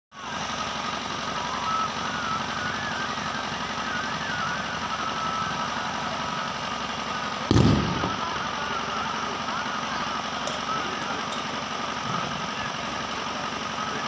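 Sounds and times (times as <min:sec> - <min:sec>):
pulsing mechanical rumble: 0:00.1 - 0:14.0.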